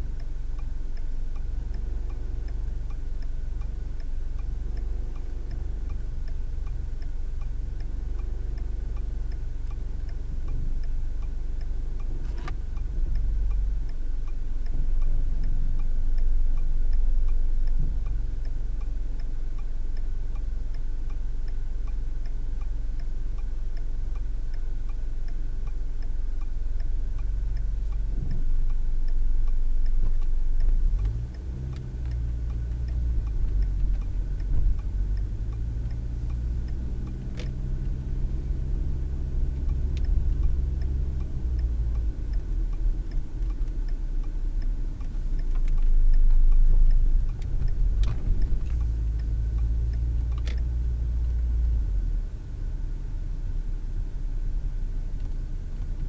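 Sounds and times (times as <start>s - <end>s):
engine and road rumble: 0.0s - 56.0s
turn signal clicking: 0.0s - 56.0s.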